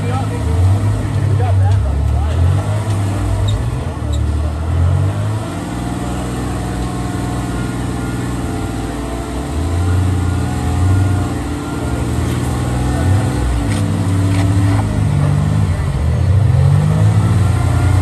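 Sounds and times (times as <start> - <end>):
buggy engine revving under load: 0.0 - 18.0.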